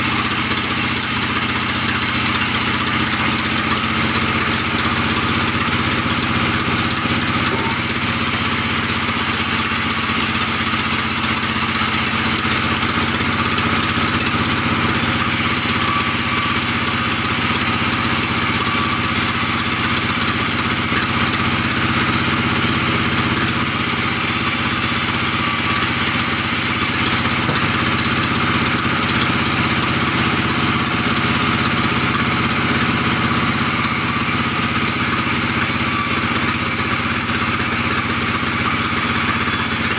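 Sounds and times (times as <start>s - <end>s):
band saw droning: 0.0s - 39.9s
saw cutting timber hiss: 0.0s - 39.9s.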